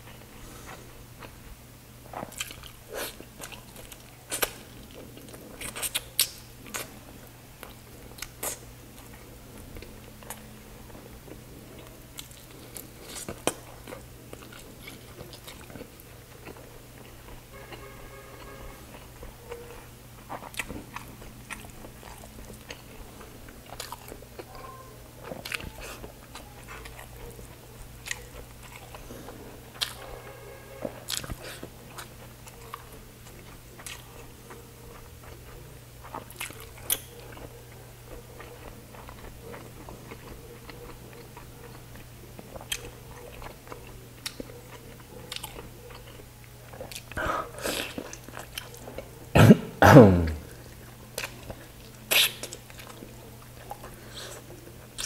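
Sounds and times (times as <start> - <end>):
person chewing food: 0.0 - 49.3, 50.0 - 55.0.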